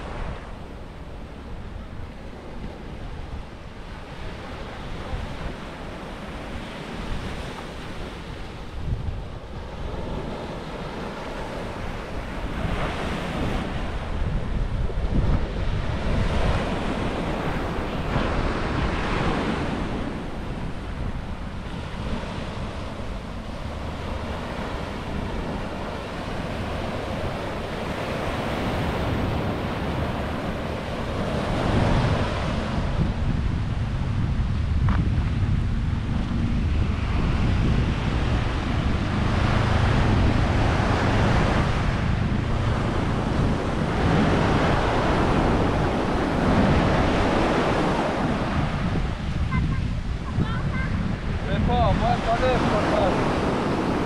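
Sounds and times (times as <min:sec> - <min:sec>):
surf washing on beach: 0:00.0 - 0:54.0
wind rumbling on microphone: 0:00.0 - 0:54.0.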